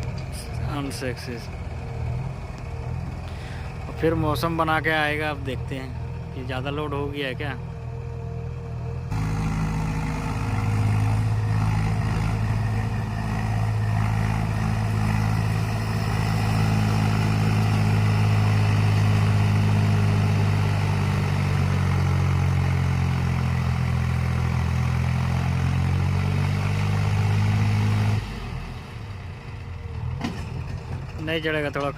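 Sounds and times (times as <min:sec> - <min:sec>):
diesel engine straining under load: 0:00.0 - 0:31.9.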